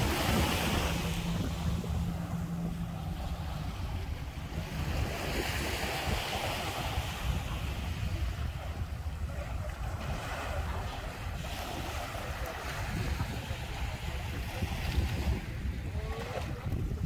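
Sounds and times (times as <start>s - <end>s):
small waves breaking on shore: 0.0s - 17.0s
wind rumbling on microphone: 0.0s - 17.0s.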